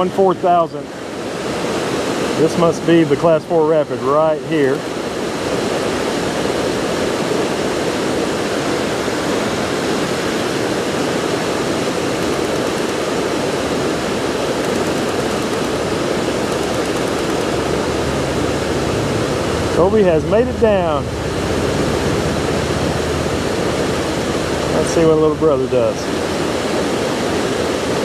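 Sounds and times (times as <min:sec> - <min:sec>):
water rushing over boulders: 0:00.0 - 0:28.0.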